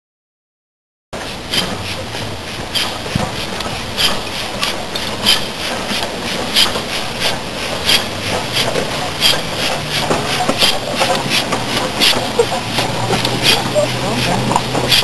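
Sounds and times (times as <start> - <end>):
steady low rumble: 1.2 - 15.0
steam locomotive chuffs: 1.2 - 15.0.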